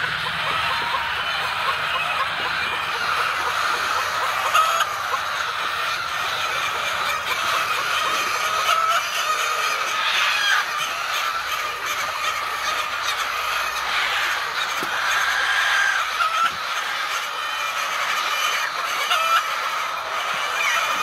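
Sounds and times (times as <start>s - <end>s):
many birds calling: 0.0s - 21.0s.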